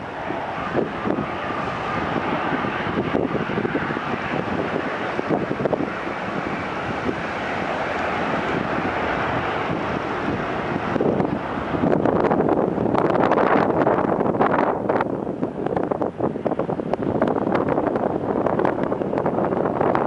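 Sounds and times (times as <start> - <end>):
jet engine rush: 0.0 - 20.0
wind buffeting microphone: 0.0 - 20.0.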